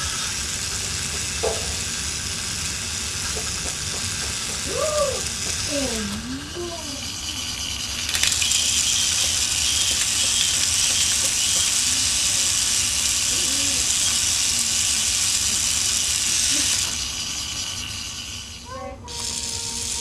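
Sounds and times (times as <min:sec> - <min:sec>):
toy roller coaster rattle and whir: 0:00.0 - 0:20.0.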